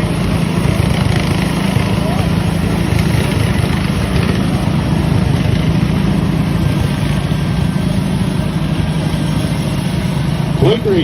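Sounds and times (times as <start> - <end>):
garden tractor engine droning: 0.0 - 11.0.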